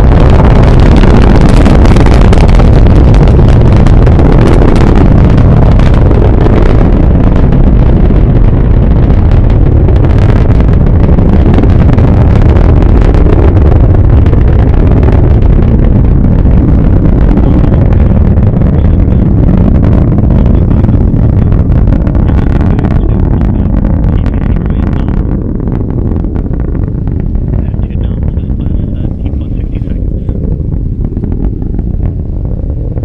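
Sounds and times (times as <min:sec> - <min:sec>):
rocket engines rumbling: 0:00.0 - 0:33.0.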